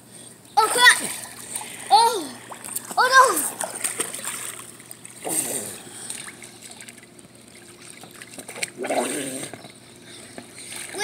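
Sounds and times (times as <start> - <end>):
pool water splashing and trickling: 0.6 - 11.0.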